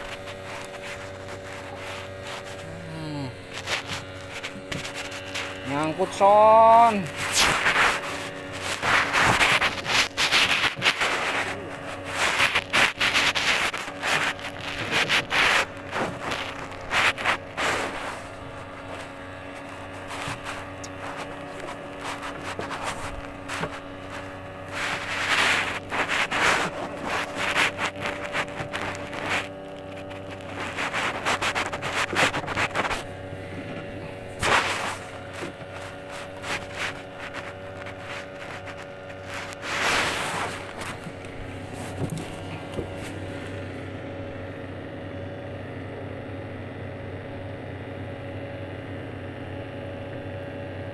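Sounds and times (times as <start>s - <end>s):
rubbing and rustling noise: 0.0s - 44.2s
engine hum: 0.0s - 50.9s.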